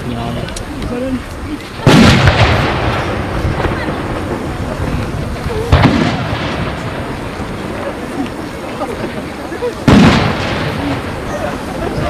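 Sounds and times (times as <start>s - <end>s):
firework shells bursting: 1.7s - 11.7s
rumbling echo: 1.7s - 12.0s.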